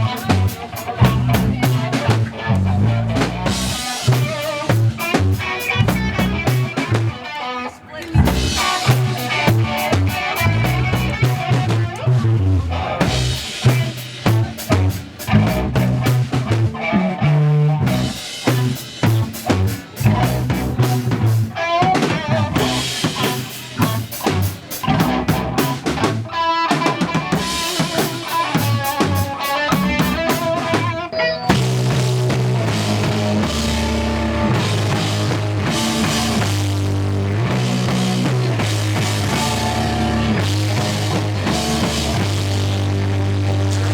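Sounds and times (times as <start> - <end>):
punk band playing live: 0.0 - 43.9.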